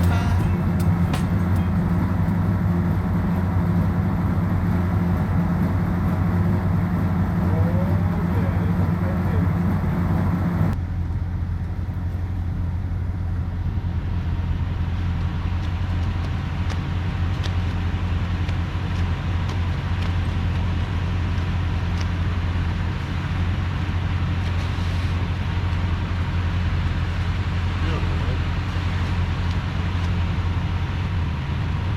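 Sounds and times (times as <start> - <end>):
truck engine droning: 0.0 - 31.9.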